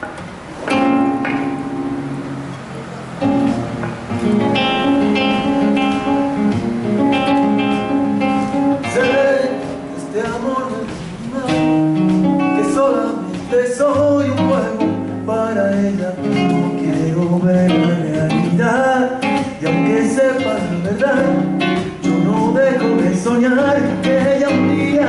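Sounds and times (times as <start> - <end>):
acoustic guitar chords: 0.0 - 25.0.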